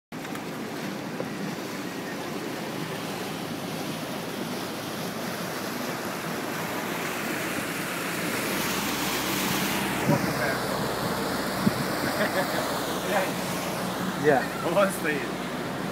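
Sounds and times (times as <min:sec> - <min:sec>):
water rushing: 0:00.1 - 0:15.9.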